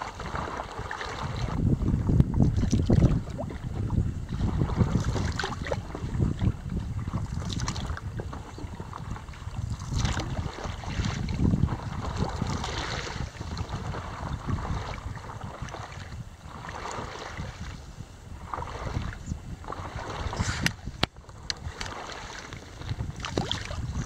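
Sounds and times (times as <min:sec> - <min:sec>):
water splashing around paddleboard: 0:00.0 - 0:24.0
wind buffeting microphone: 0:00.0 - 0:24.0.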